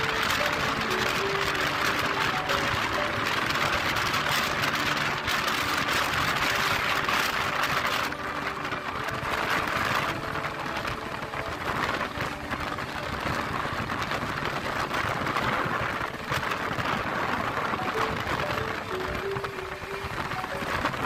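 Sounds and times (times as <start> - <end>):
moving train rushing noise: 0.0 - 21.0.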